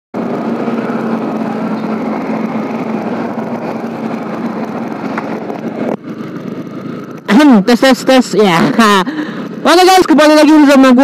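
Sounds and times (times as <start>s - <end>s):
motorcycle engine running: 0.2s - 11.0s
road and wind rushing: 0.2s - 11.0s.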